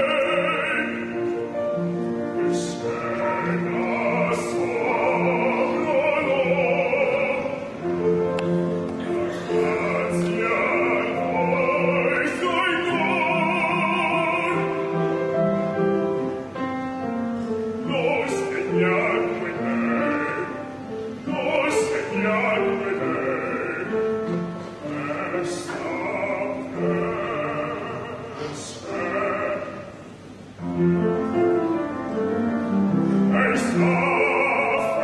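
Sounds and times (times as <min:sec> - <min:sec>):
man singing opera with vibrato: 0:00.0 - 0:35.0.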